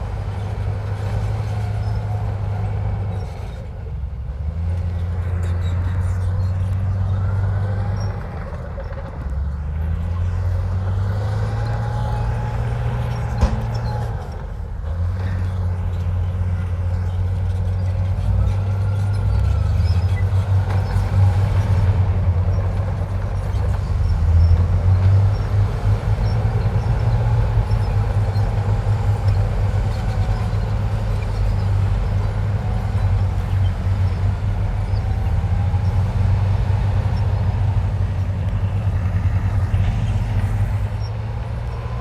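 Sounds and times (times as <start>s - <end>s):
bulldozer diesel engine rumbling: 0.0s - 42.0s.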